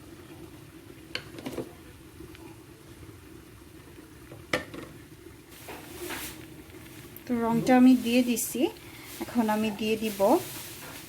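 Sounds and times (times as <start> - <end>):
pot cooking with low hum: 0.0 - 11.0.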